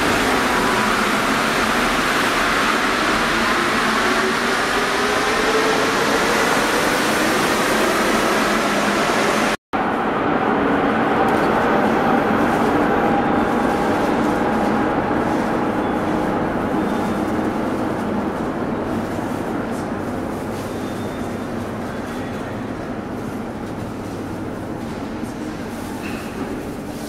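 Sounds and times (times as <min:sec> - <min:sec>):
train running through tunnel: 0:00.0 - 0:27.0.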